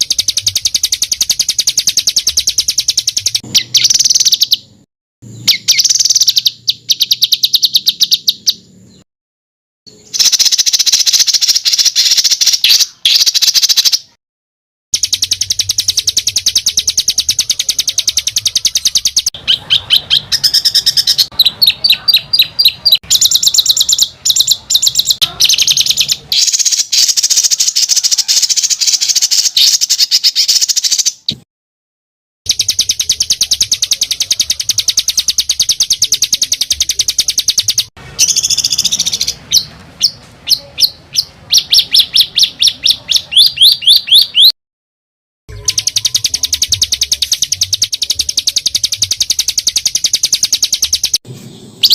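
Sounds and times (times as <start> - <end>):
songbird rattling trills: 0.0 - 4.6, 5.4 - 8.6, 10.1 - 14.1, 15.0 - 31.2, 32.5 - 44.5, 45.5 - 51.2.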